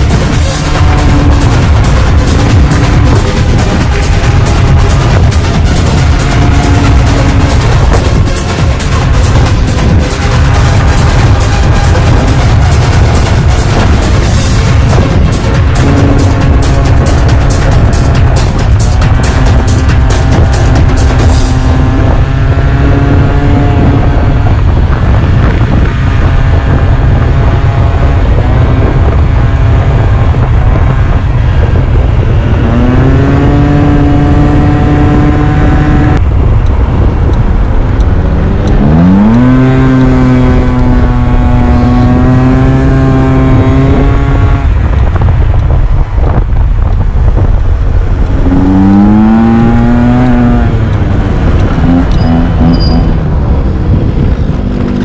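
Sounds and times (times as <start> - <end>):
scooter engine accelerating: 0.0 - 46.4, 47.2 - 55.0
wind buffeting microphone: 0.0 - 55.0.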